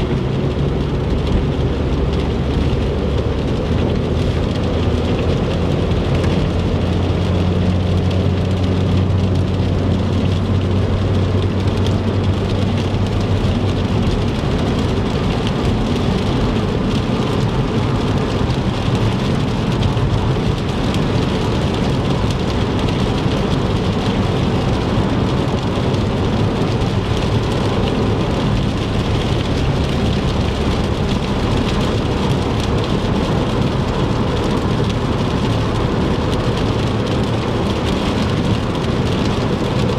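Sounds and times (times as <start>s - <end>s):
rain on a car: 0.0s - 39.9s
wet tyre noise: 0.0s - 39.9s.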